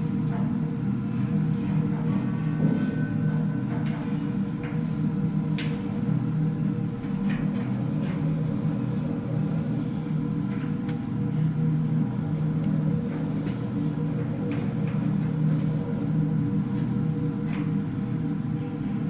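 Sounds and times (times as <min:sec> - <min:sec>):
ship machinery drone: 0:00.0 - 0:19.0.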